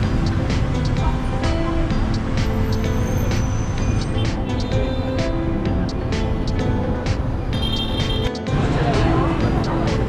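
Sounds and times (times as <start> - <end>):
background music: 0.0 - 10.0
city street traffic: 0.0 - 10.0.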